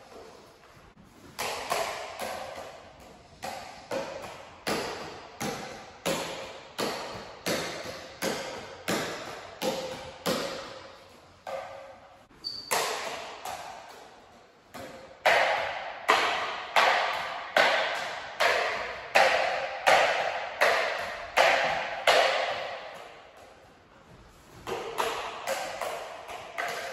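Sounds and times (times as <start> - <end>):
juggling clubs slapping hands: 1.2 - 26.9.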